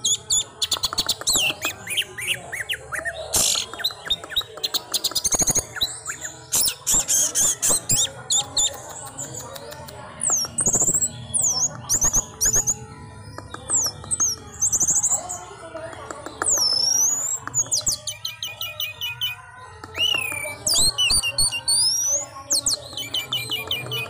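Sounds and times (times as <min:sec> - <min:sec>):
thrush singing: 0:00.0 - 0:24.0.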